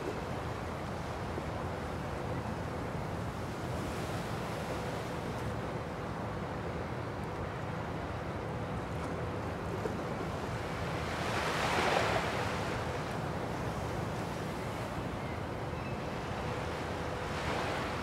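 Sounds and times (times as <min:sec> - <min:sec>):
steady wind: 0:00.0 - 0:18.0.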